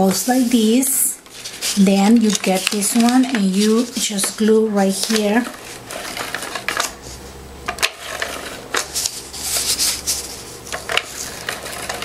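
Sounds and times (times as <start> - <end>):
paper rustling: 0.0 - 7.2, 7.8 - 12.0.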